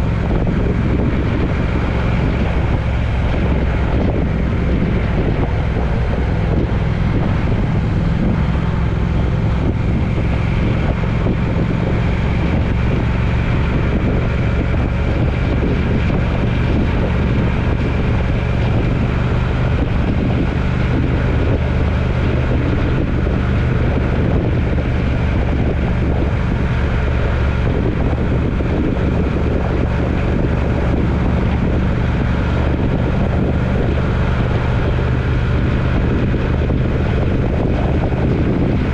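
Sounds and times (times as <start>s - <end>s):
road and wind noise: 0.0s - 38.9s
vehicle engine drone: 0.0s - 38.9s.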